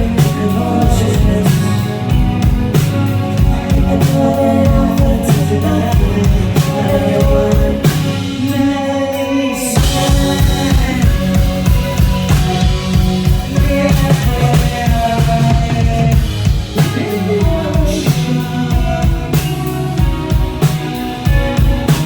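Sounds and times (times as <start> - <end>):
drum kit beating: 0.0 - 22.0
guitar and bass: 0.0 - 22.0.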